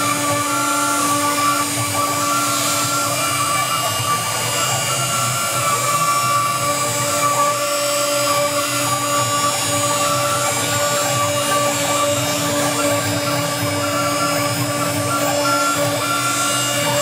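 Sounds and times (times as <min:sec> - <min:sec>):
continuous cutting noise: 0:00.0 - 0:17.0
router spindle whine: 0:00.0 - 0:17.0.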